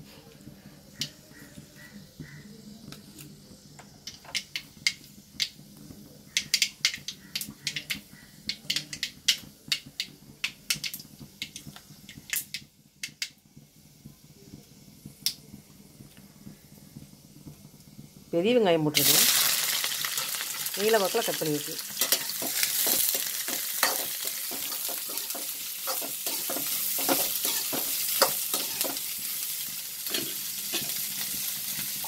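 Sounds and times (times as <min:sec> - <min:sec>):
mustard seeds popping in oil: 0:00.9 - 0:13.4, 0:15.0 - 0:16.3, 0:17.0 - 0:32.0.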